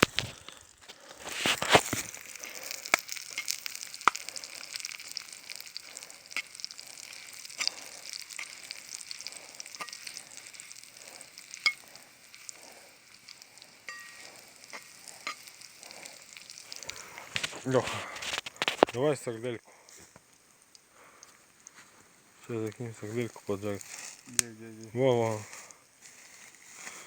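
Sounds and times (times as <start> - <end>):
food sizzling in oil: 0.0 - 27.0
oil popping and crackling: 0.0 - 27.0.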